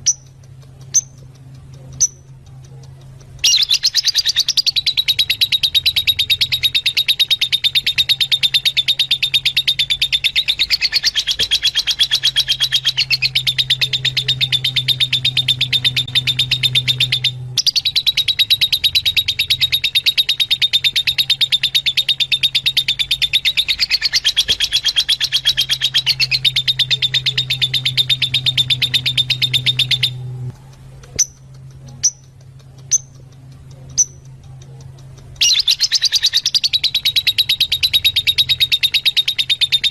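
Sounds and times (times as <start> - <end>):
lovebirds chattering: 0.0 - 39.9
low hum: 0.0 - 39.9.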